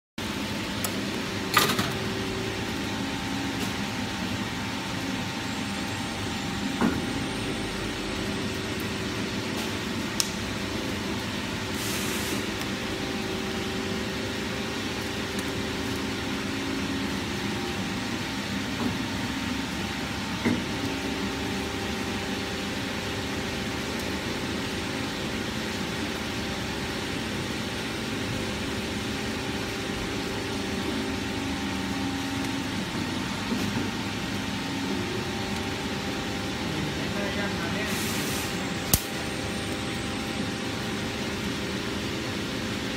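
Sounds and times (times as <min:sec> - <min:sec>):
mixing mill motor hum: 0:00.2 - 0:42.9.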